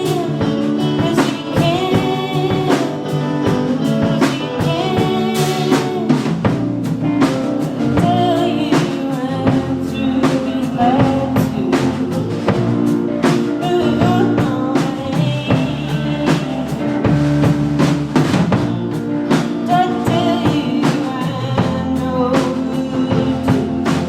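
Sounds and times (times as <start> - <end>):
person singing: 0.0 - 17.9, 18.5 - 24.0
drum kit beat: 0.0 - 24.0
guitar: 0.0 - 24.0.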